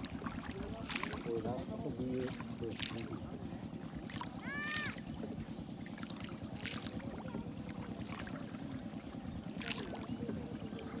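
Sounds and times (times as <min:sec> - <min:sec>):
boat motor throbbing: 0:00.0 - 0:11.0
water splashes: 0:00.0 - 0:11.0.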